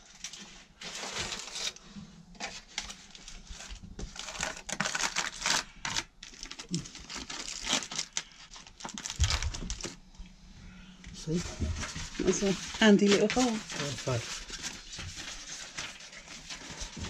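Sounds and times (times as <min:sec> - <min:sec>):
bubble insulation crinkling: 0:00.0 - 0:10.0, 0:11.1 - 0:17.0.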